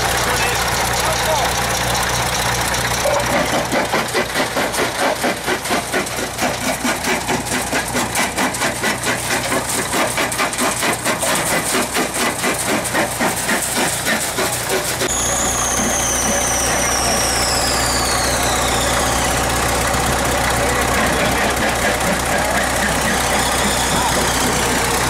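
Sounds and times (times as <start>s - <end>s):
rock crusher clattering: 2.5s - 25.0s.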